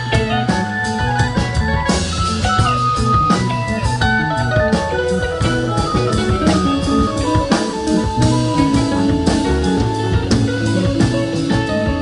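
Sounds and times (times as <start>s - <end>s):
electric guitar notes: 0.0s - 12.0s
live rock band playing: 0.0s - 12.0s.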